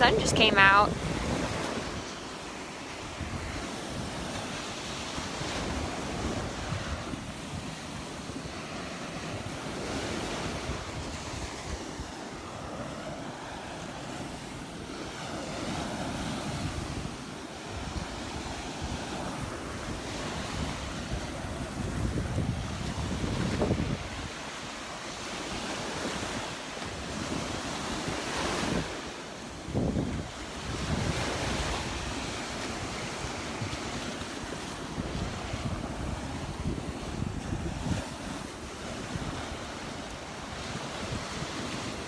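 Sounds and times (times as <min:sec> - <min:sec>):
wind buffeting microphone: 0:00.0 - 0:02.2, 0:03.0 - 0:13.2, 0:13.8 - 0:24.6, 0:25.2 - 0:42.0
surf breaking on beach: 0:00.0 - 0:42.0.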